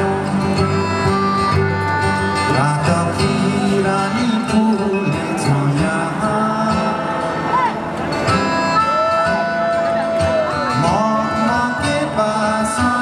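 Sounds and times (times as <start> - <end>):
man singing: 0.0 - 1.2, 2.1 - 7.8, 9.0 - 13.0
acoustic guitar strumming: 0.0 - 13.0.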